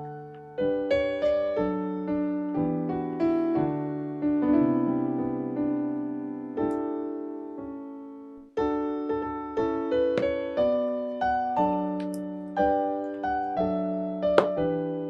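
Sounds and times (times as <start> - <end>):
slow gentle solo piano: 0.0 - 15.0.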